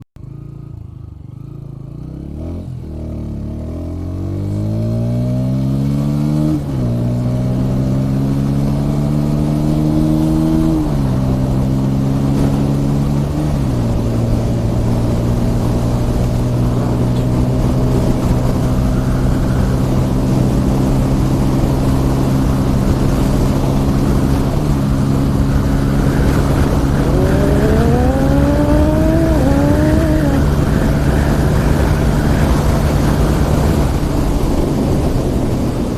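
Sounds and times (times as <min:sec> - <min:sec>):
motorcycle engine accelerating: 0:00.2 - 0:35.9.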